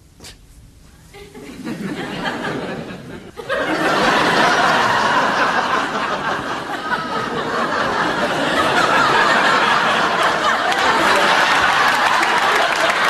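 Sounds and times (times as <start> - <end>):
studio audience laughing: 1.2 - 13.0.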